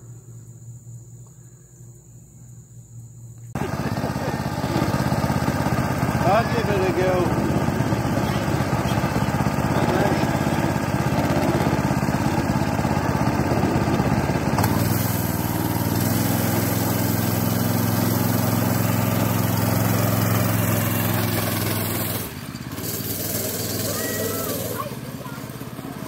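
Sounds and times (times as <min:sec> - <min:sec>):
go-kart engine: 0:03.6 - 0:26.0.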